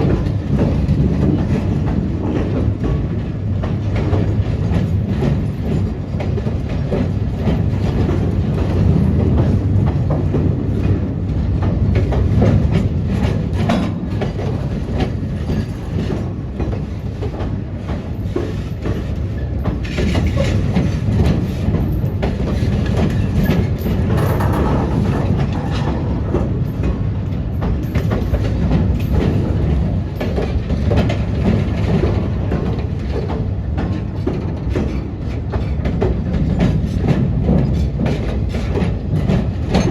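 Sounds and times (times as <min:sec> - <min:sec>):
diesel train engine rumble: 0:00.0 - 0:39.9
train wheels clicking: 0:00.0 - 0:39.9.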